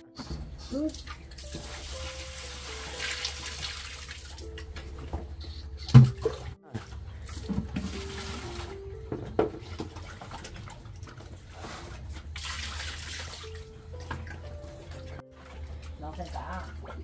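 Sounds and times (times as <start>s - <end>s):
liquid splashing into a trough: 1.0s - 5.1s, 5.9s - 17.0s.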